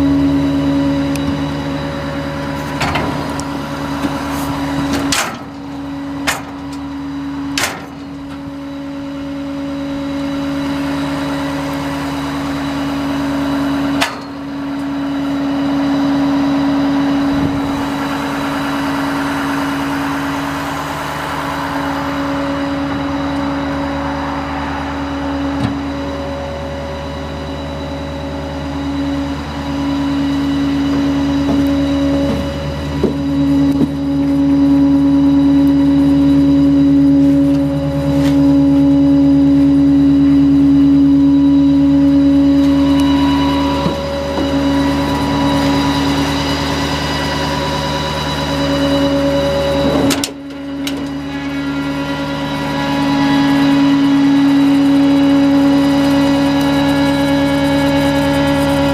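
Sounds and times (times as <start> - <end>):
truck engine idling: 0.0 - 58.9.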